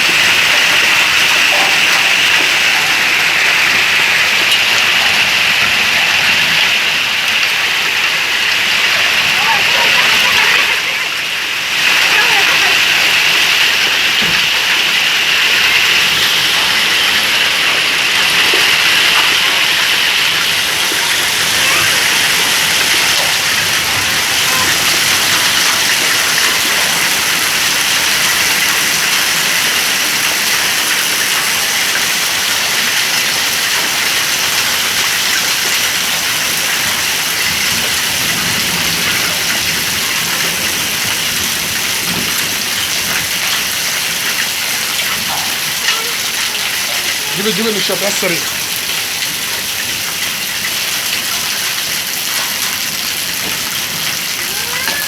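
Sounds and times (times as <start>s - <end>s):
rain falling steadily: 0.0s - 55.0s.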